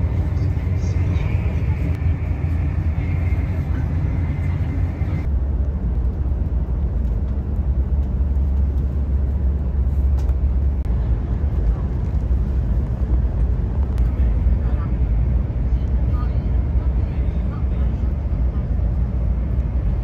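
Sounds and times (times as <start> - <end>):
train cabin rumble: 0.0 - 20.0.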